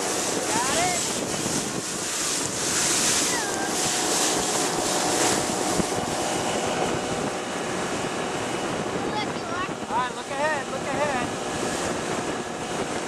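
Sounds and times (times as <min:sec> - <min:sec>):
faint engine drone: 0:00.0 - 0:13.0
water rushing past boat hull: 0:00.0 - 0:13.0
wind buffeting microphone: 0:00.0 - 0:13.0.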